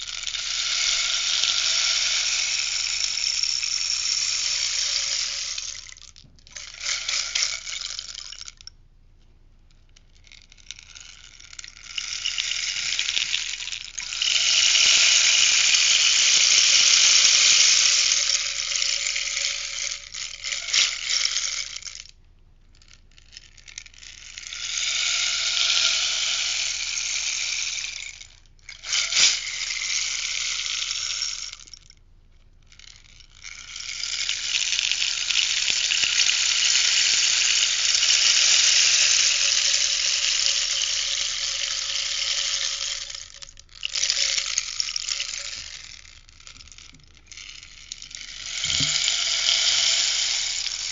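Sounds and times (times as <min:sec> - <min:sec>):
rainstick beads pouring: 0:00.0 - 0:08.7, 0:10.0 - 0:22.2, 0:22.8 - 0:32.0, 0:32.7 - 0:50.9.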